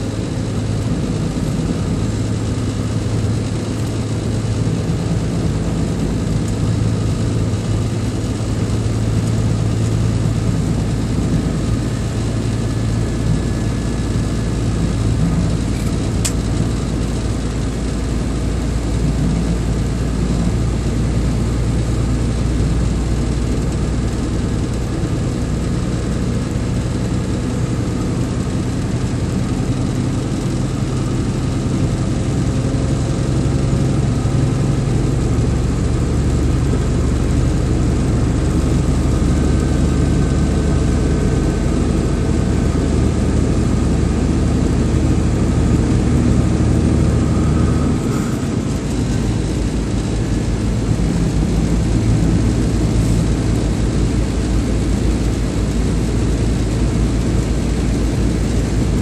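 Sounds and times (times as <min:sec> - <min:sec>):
road and wind noise: 0:00.0 - 0:59.0
vehicle engine running under load: 0:00.0 - 0:59.0.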